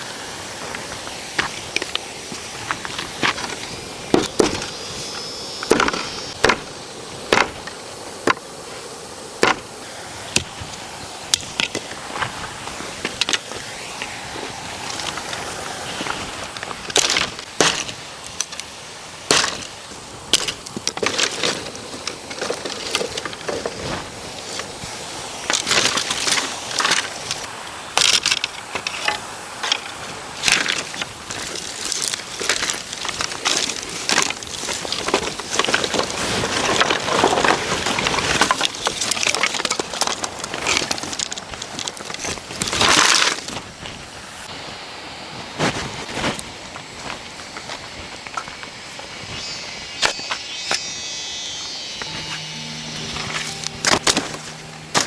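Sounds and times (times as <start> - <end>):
stream water running: 0.0 - 45.2.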